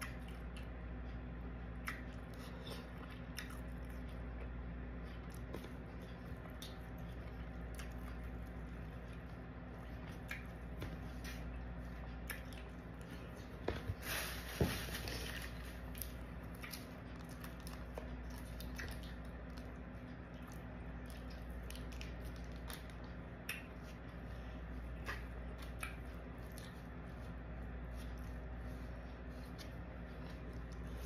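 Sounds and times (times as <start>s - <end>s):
chewing: 0.0s - 14.3s, 14.9s - 31.0s.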